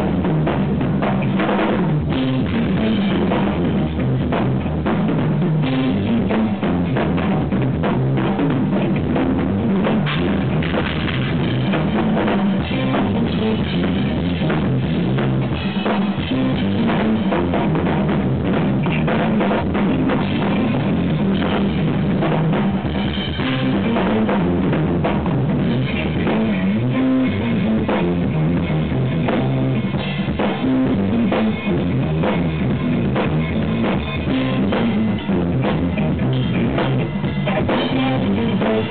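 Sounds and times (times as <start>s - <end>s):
drum kit: 0.0s - 38.9s
jazz-rock band playing: 0.0s - 38.9s.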